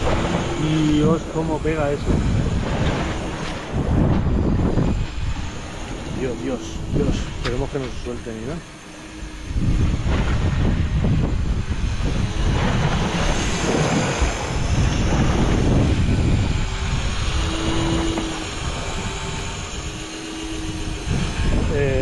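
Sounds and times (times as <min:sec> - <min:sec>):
water splashing against hull: 0:00.0 - 0:21.7
wind buffeting microphone: 0:00.0 - 0:22.0.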